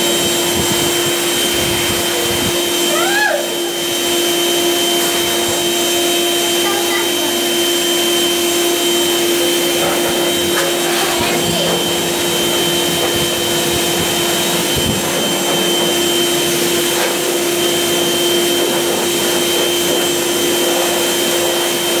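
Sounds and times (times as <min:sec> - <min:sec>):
blow dryer running: 0:00.0 - 0:22.0.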